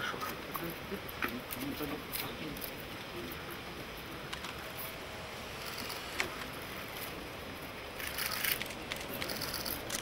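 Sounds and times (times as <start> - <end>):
outdoor background noise: 0.0 - 10.0
hissing noise: 0.3 - 9.9.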